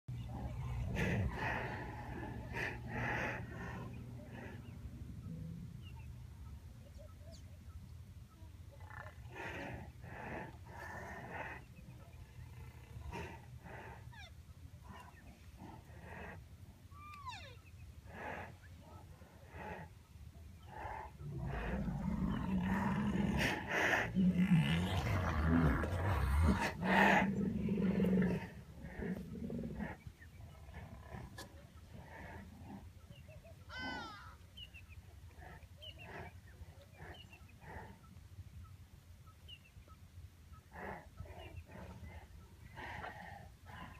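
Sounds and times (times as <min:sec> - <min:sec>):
rhinoceros breathy calls: 0:00.1 - 0:07.4, 0:08.7 - 0:43.9.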